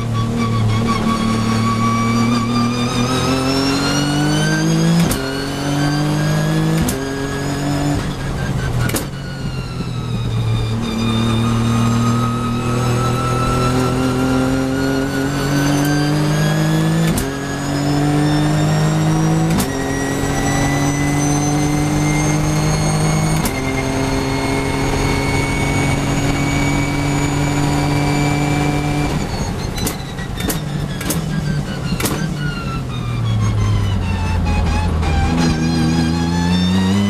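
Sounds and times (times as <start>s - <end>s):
race car engine accelerating: 0.0s - 37.0s.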